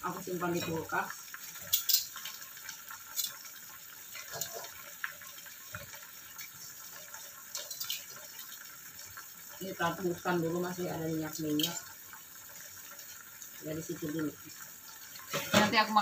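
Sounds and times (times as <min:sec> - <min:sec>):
oil crackling in wok: 0:00.0 - 0:16.0
soup simmering with hiss: 0:00.0 - 0:16.0.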